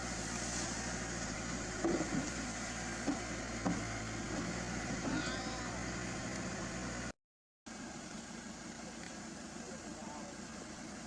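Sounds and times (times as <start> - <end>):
engine idling: 0.0 - 7.1, 7.7 - 11.0.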